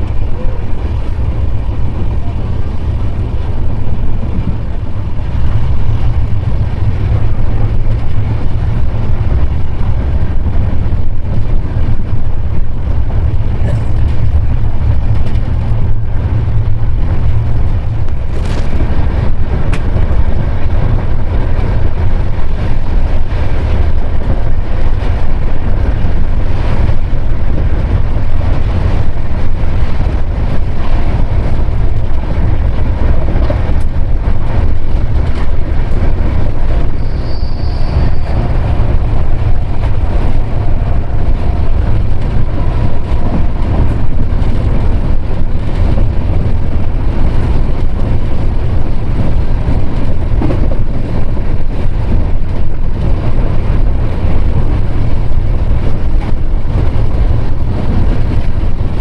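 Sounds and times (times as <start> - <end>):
train rumble and rushing: 0.0 - 59.0.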